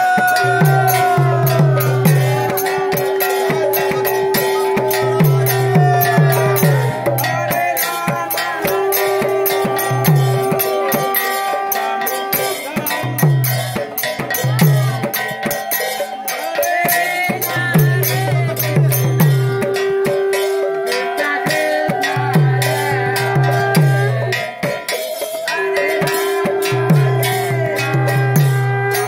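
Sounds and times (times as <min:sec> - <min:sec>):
hand cymbals clashing: 0:00.0 - 0:29.0.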